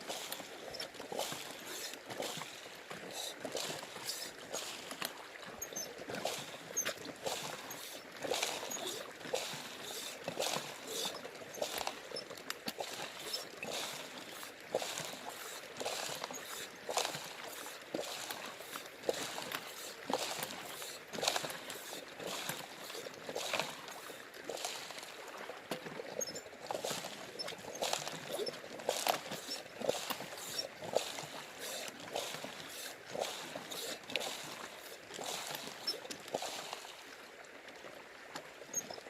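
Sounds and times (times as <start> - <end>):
water splashing: 0.0 - 38.0.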